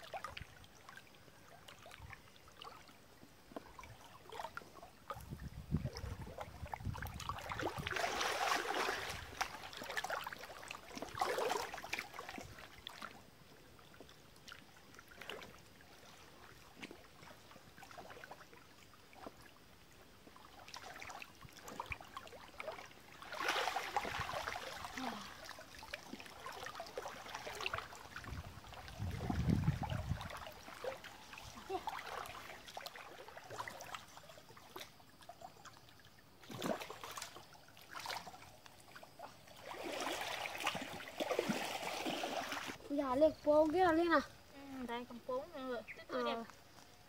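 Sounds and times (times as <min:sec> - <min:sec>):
water splashing as people wade: 0:00.0 - 0:47.0.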